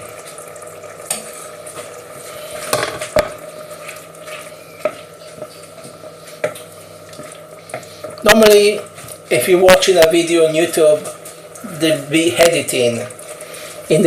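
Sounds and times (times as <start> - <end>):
food simmering: 0.0 - 10.2, 10.8 - 14.0
background hum: 0.0 - 14.0.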